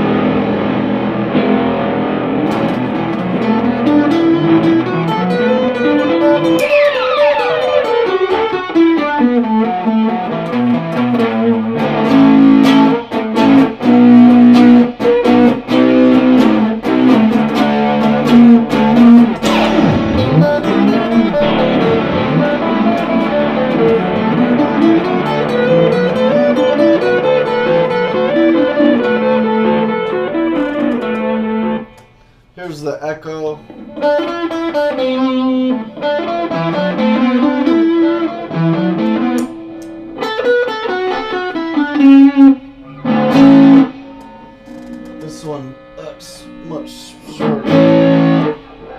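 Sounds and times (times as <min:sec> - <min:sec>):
electric guitar with synth effect: 0:00.0 - 0:32.4, 0:33.7 - 0:48.9.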